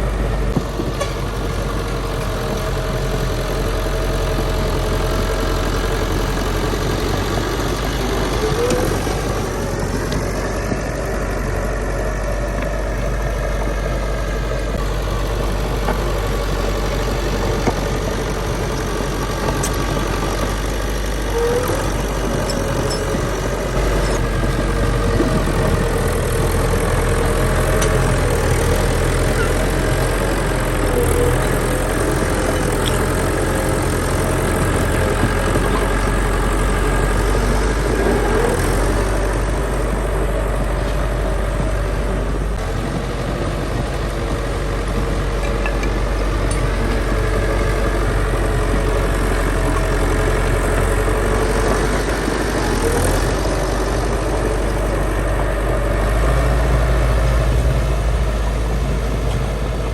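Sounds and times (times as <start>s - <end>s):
earthmoving machine diesel engine: 0.0s - 59.9s.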